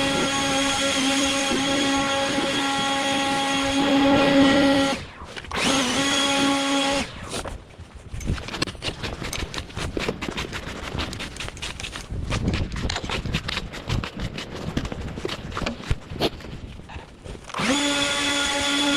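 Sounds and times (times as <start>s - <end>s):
crunching and scraping: 0.0s - 18.8s
handheld blower motor: 0.0s - 18.9s.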